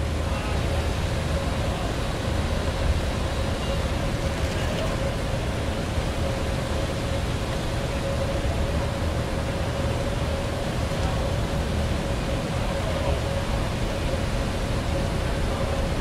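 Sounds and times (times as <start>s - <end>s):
machine hum with whine: 0.0s - 16.0s
rumbling outdoor background: 0.0s - 16.0s.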